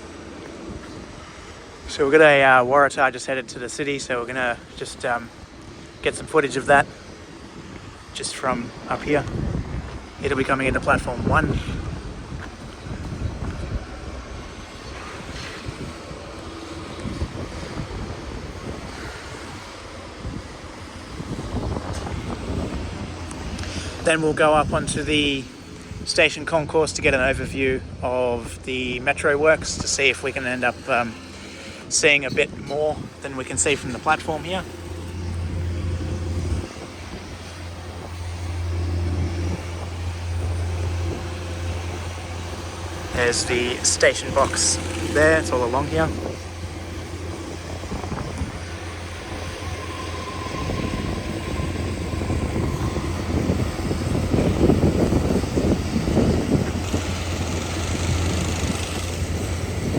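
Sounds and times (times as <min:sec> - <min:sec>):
electric train rumbling: 0:00.0 - 0:59.9
wind buffeting microphone: 0:00.0 - 0:59.9.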